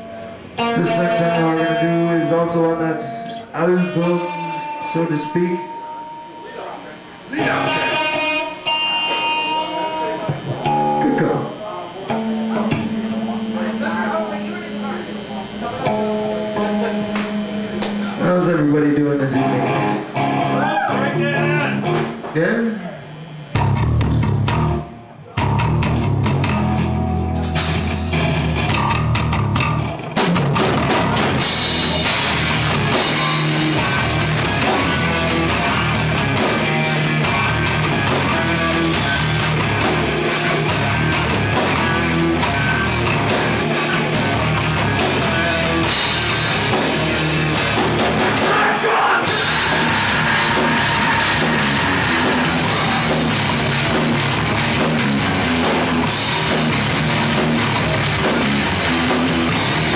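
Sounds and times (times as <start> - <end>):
hard rock band playing: 0.0 - 6.4, 7.1 - 22.5, 23.5 - 59.9.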